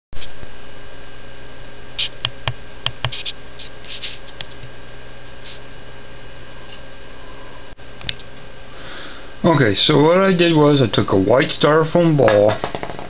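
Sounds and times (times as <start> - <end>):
faint electrical hum: 0.2 - 13.0.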